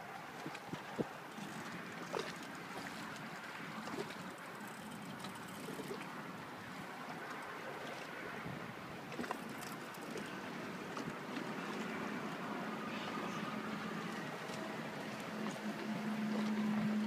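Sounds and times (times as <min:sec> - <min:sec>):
river water: 0:00.0 - 0:17.0
wind: 0:00.0 - 0:17.0.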